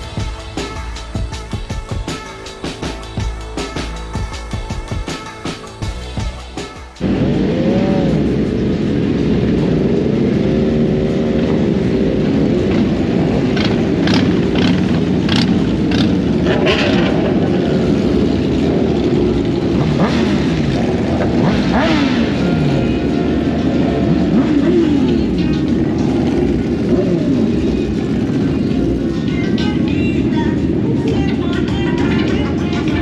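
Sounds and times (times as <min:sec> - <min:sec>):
motorcycle engine revving: 0:00.0 - 0:29.6.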